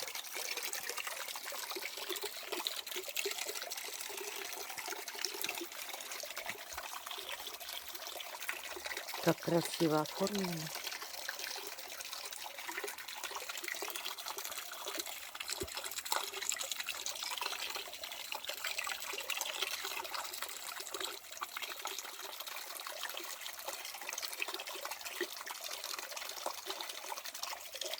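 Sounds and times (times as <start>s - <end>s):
water trickling and splashing: 0.0s - 27.9s.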